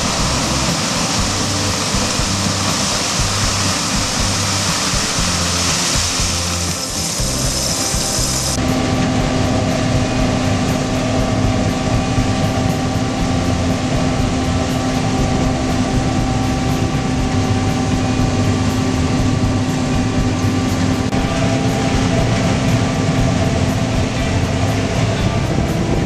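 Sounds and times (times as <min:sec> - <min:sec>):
combine harvester droning: 0:00.0 - 0:26.0.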